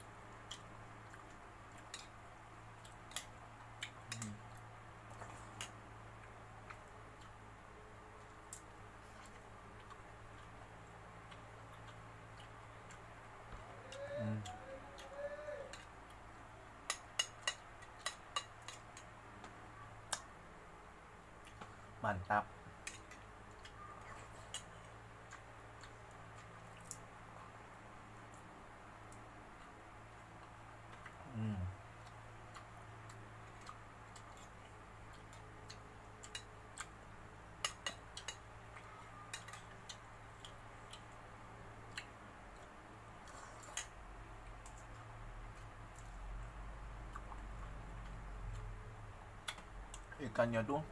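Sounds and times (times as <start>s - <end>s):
eating clicks and smacks: 0.3s - 7.4s, 11.2s - 16.2s, 16.8s - 20.3s, 22.7s - 31.4s, 32.0s - 46.2s, 46.9s - 48.7s, 49.4s - 50.2s.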